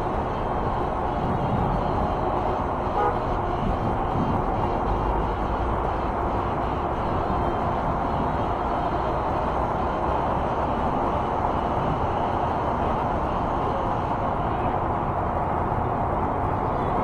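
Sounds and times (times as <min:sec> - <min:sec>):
highway traffic hiss: 0:00.0 - 0:17.0
wind over camera: 0:00.0 - 0:17.0.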